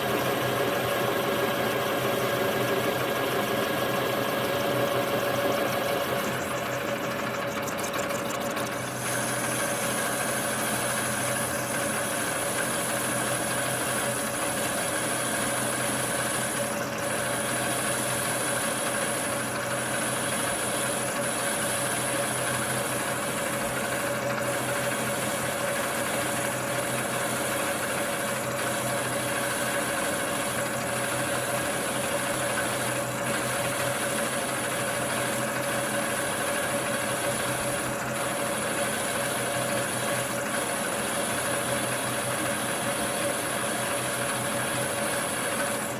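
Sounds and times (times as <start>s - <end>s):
metal lathe hum: 0.0s - 45.9s.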